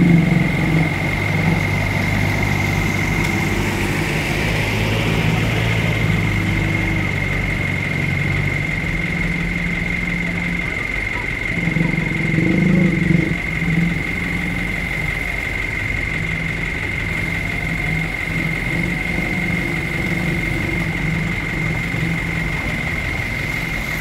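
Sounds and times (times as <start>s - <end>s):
high-pitched whine: 0.0s - 24.0s
vehicle engines idling: 0.0s - 24.0s.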